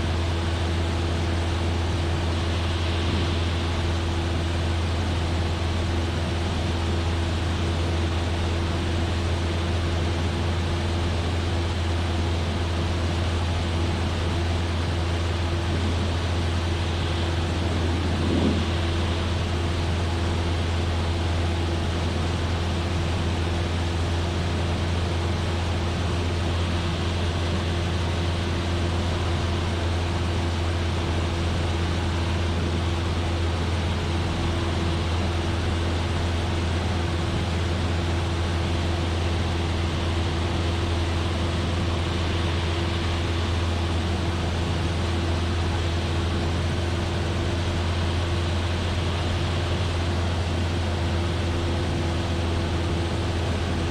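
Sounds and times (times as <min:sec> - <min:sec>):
airplane engine and propeller: 0:00.0 - 0:53.9.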